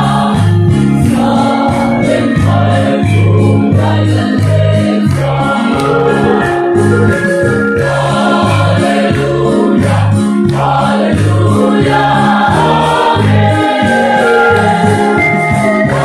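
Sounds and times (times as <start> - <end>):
bass line: 0.0 - 16.0
mixed choir singing: 0.0 - 16.0.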